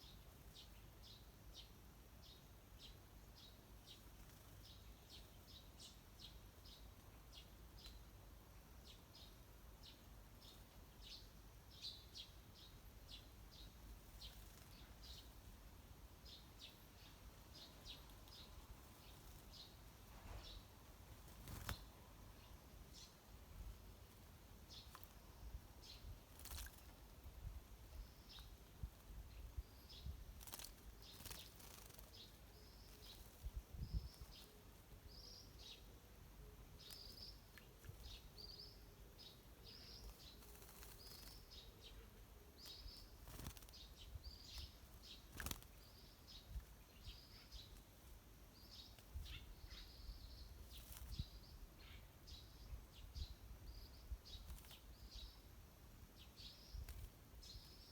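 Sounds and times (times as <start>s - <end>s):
birds chirping faintly: 0.0s - 57.9s.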